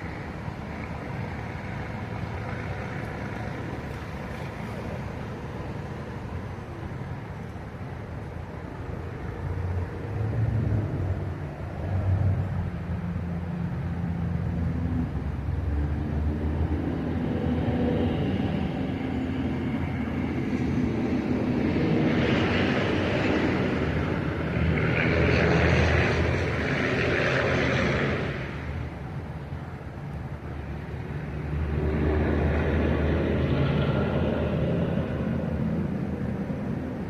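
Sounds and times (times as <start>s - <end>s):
rushing noise: 0.0s - 37.0s.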